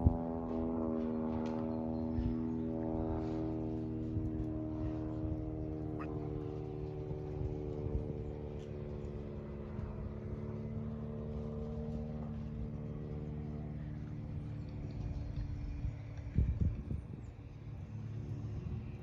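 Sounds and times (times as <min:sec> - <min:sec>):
propeller aircraft droning: 0:00.0 - 0:19.0.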